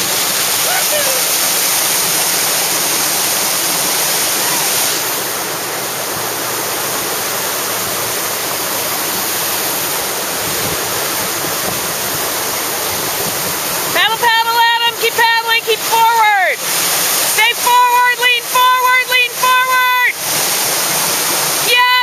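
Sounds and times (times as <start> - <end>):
rushing whitewater: 0.0 - 22.0.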